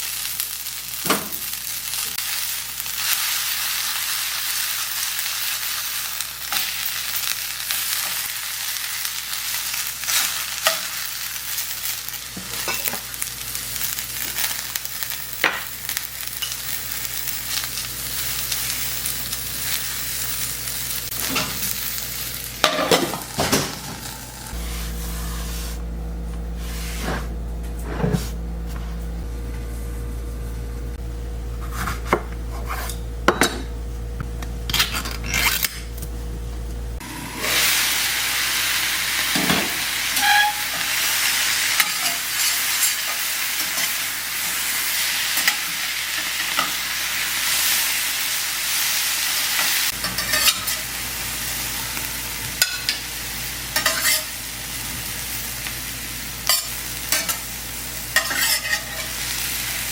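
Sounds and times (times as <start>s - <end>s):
food sizzling in a pan: 0.0s - 25.8s, 37.0s - 59.9s.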